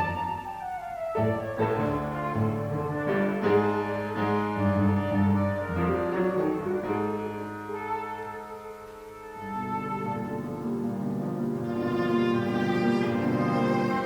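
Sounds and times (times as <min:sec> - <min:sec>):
chamber music ensemble: 0:00.0 - 0:14.0.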